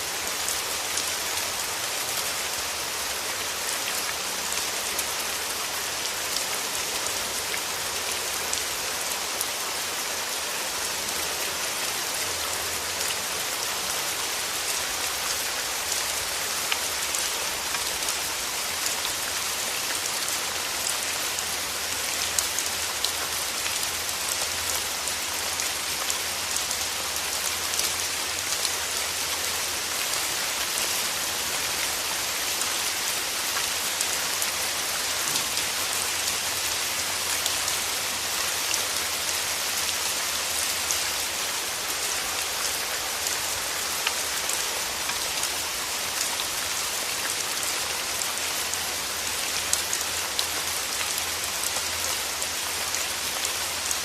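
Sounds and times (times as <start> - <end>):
rain falling through trees: 0.0 - 54.0.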